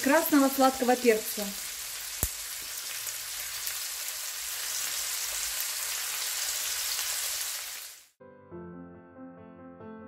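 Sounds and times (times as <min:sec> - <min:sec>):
liver sizzling in a frying pan: 0:00.0 - 0:08.2.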